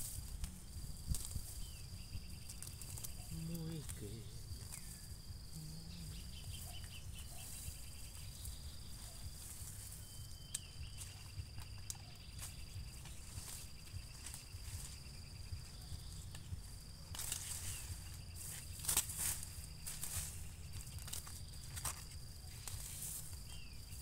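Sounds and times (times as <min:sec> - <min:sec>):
insects calling: 0:00.0 - 0:24.0
pulsing insect trill: 0:00.0 - 0:24.0
weeds being pulled up: 0:00.0 - 0:24.0.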